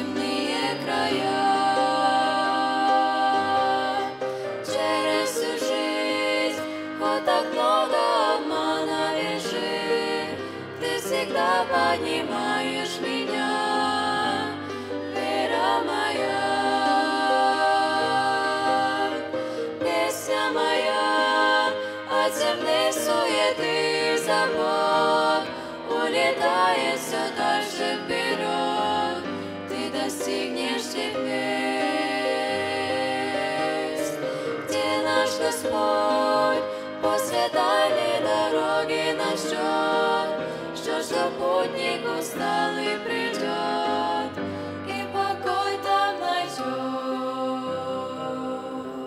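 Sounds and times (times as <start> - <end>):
women singing together: 0.0 - 49.0.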